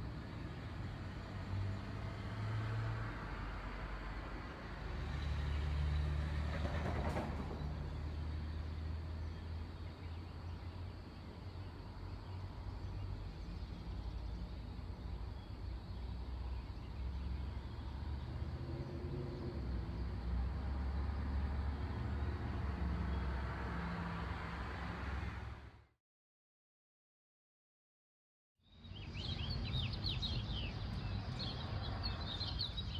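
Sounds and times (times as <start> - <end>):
low rumble of distant vehicles: 0.0 - 25.9, 28.6 - 32.9.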